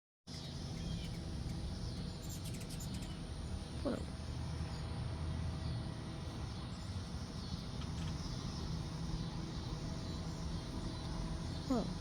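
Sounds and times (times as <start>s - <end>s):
hummingbirds chirping: 0.3s - 12.0s.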